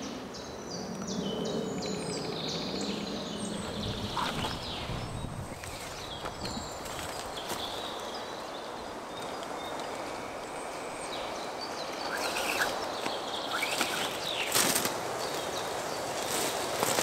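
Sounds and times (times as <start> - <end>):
bird chirps: 0.4 - 16.4.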